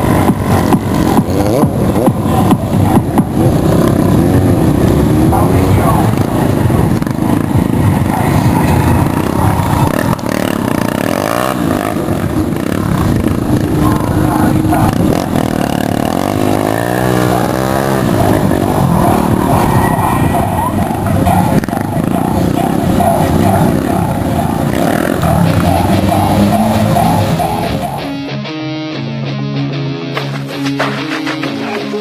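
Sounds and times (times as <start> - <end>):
vehicle engines revving hard: 0.0 - 28.2.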